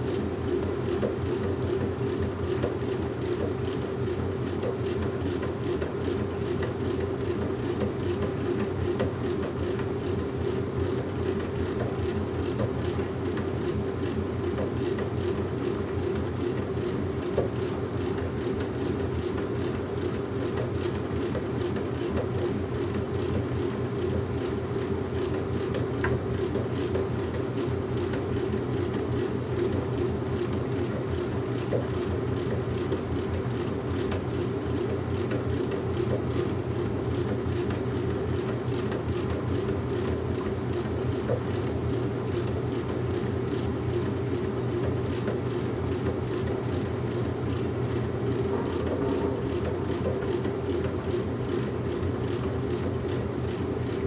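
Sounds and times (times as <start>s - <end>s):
washing machine rumbling: 0.0s - 54.0s.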